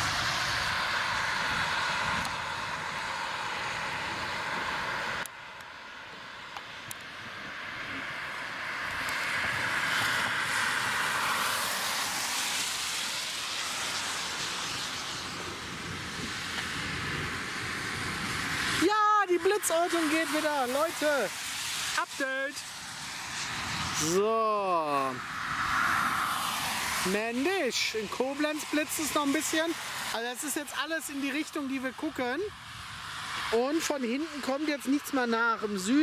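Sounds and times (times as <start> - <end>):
cars passing on a road: 0.0 - 36.0.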